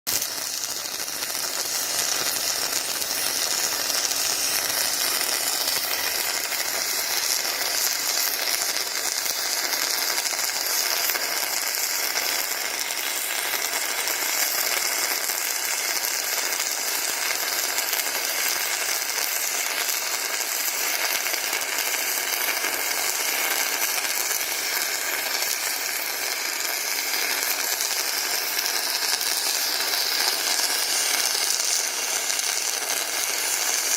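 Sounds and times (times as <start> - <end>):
welding arc crackling hiss: 0.1 - 33.9.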